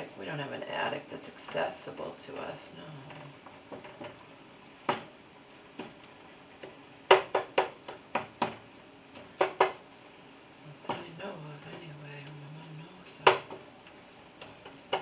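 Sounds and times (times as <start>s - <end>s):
food frying: 0.0s - 15.0s.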